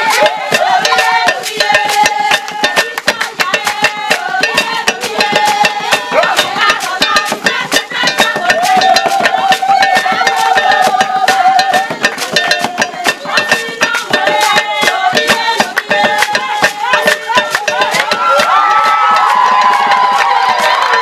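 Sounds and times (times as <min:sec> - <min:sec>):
person singing: 0:00.0 - 0:18.4
fast hand percussion: 0:00.0 - 0:21.0.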